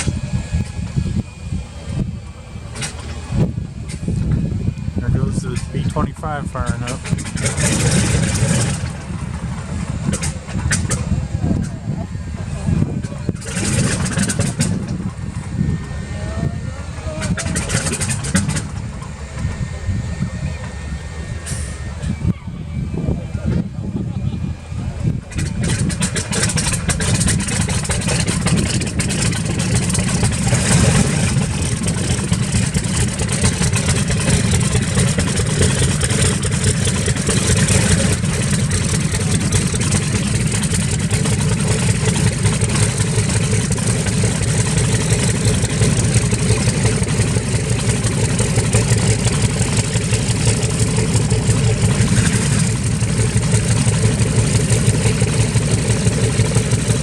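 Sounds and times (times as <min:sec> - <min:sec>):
radial aircraft engines running: 0:00.0 - 0:57.0.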